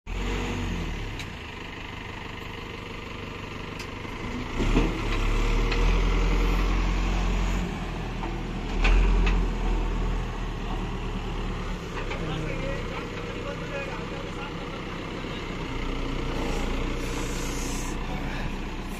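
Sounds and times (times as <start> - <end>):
diesel engine running: 0.1 - 18.9.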